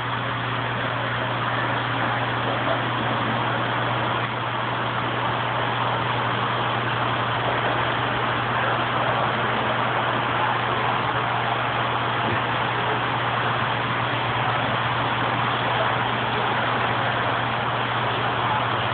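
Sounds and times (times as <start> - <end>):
aquarium pump hum: 0.0 - 18.9
hiss of circulating water: 0.0 - 18.9.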